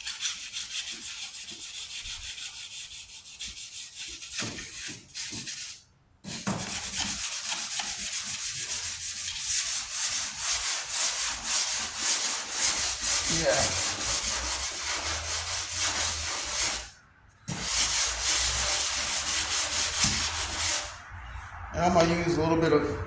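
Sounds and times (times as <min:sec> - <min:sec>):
sandpaper sanding metal: 0:00.0 - 0:05.8, 0:06.6 - 0:16.9, 0:17.5 - 0:21.0.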